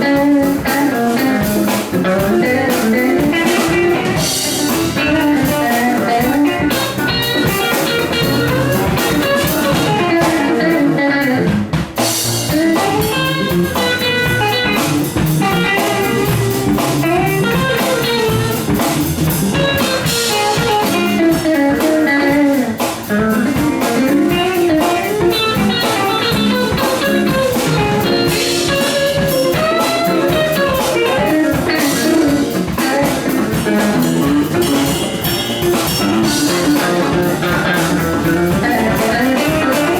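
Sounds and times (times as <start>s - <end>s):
drum kit: 0.0s - 39.9s
electric guitar melody: 0.0s - 39.9s.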